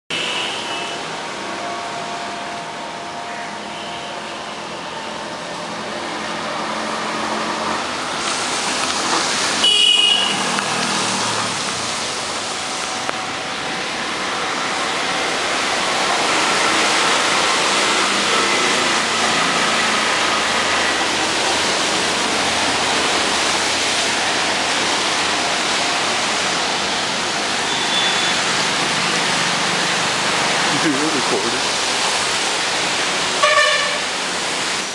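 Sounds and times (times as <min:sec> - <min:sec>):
rain on trees and pavement: 0:00.1 - 0:34.9.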